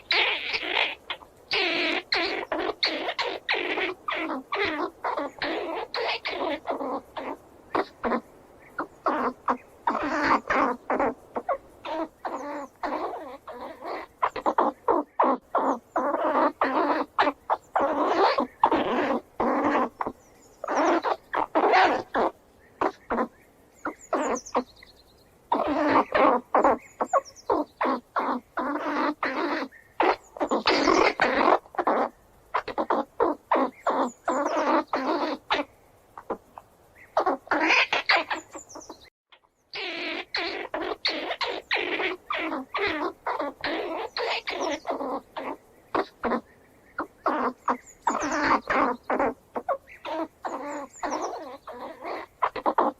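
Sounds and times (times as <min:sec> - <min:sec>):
squirrel squealing: 0:00.0 - 0:24.8, 0:25.4 - 0:52.9.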